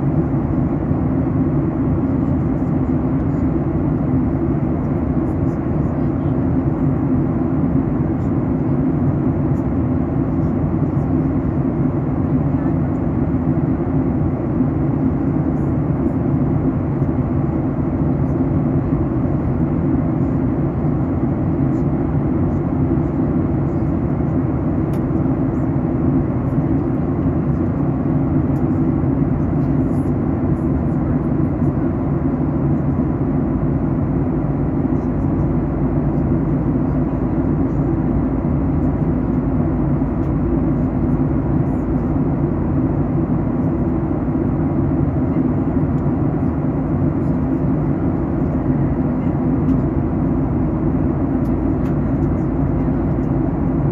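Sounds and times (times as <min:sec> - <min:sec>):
faint steady whine: 0:00.0 - 0:53.9
jet engine drone: 0:00.0 - 0:53.9.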